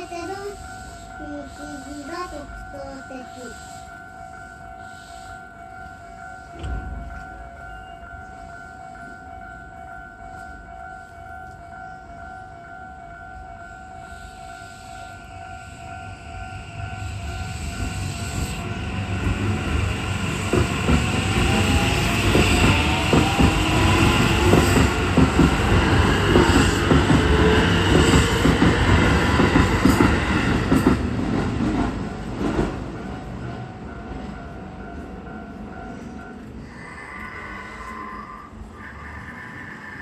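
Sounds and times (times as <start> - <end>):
train whine: 0.0 - 40.0.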